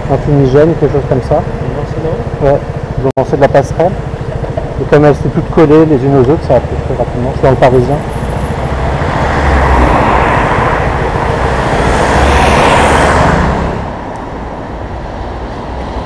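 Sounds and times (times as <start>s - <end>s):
road vehicle passing: 0.0s - 16.0s.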